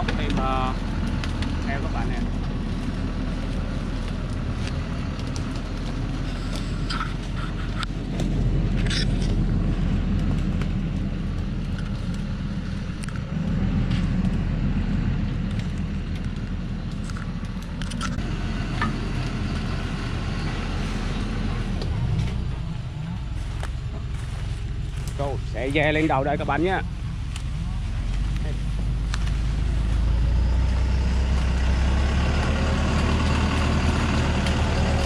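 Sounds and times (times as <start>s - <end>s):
diesel truck engine rumble: 0.0s - 35.0s.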